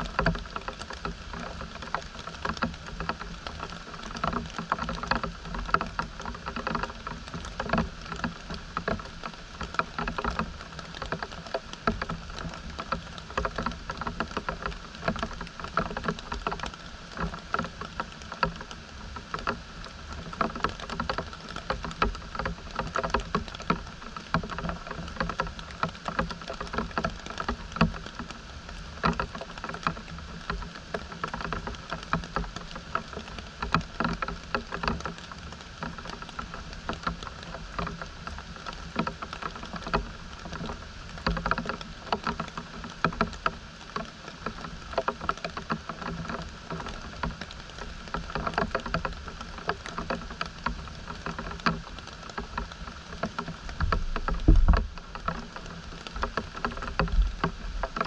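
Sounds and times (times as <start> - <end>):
water splashing and dripping: 0.0 - 58.0
watery rush: 0.0 - 58.0.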